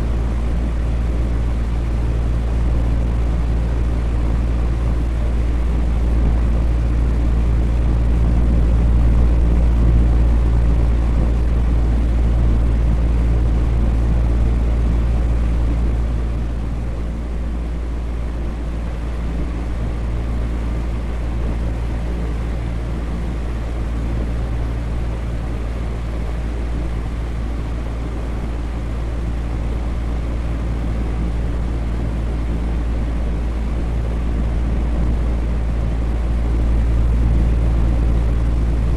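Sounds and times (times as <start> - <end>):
electric fan whooshing: 0.0 - 38.9
fan motor hum: 0.0 - 38.9.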